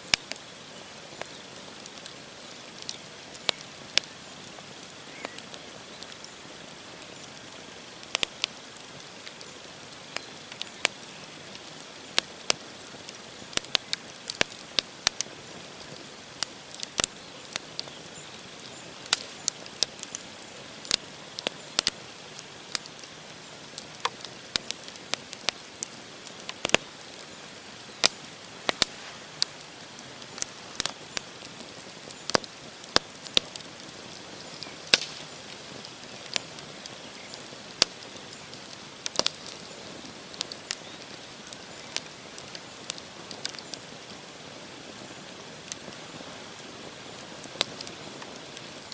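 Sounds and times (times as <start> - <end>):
campfire crackling and popping: 0.0 - 48.9
soft steady fire hiss: 0.0 - 48.9.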